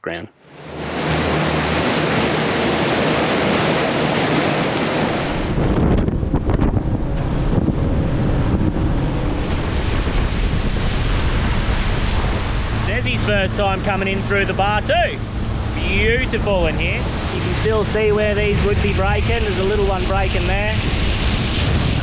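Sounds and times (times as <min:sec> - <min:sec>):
rushing water and surf: 0:00.4 - 0:22.0
wind buffeting microphone: 0:00.6 - 0:22.0.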